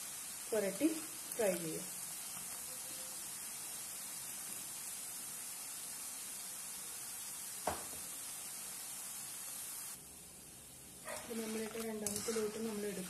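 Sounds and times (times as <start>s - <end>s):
peanuts deep-frying in oil: 0.0s - 13.0s.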